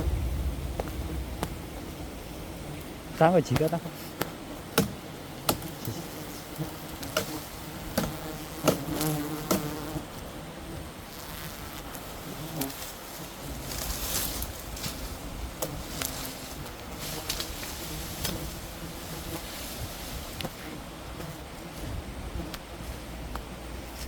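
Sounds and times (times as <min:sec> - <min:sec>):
bees buzzing in a swarm: 0:00.0 - 0:24.0.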